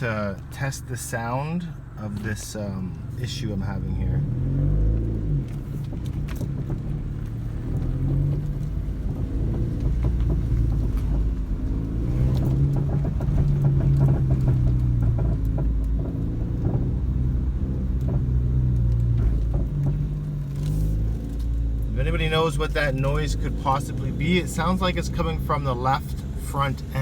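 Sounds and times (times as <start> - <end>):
car engine running: 0.0 - 27.0
suspension knocks and rattles: 4.2 - 27.0.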